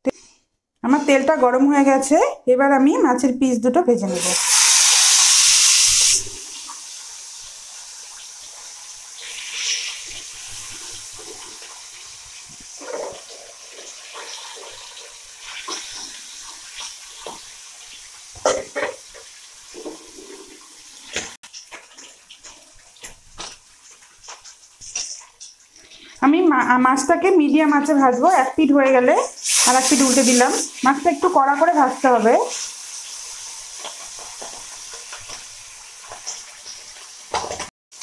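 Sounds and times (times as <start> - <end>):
fish sizzling in hot oil: 4.1 - 38.0.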